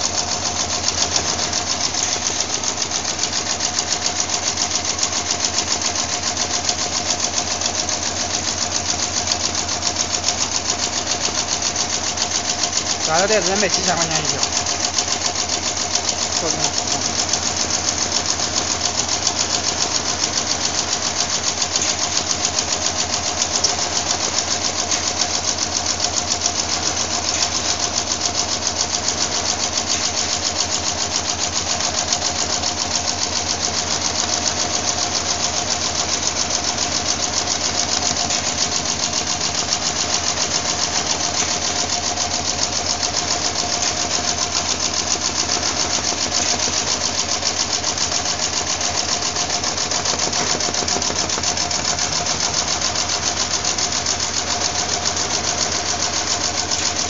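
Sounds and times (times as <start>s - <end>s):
sewing machine stitching: 0.0s - 57.0s.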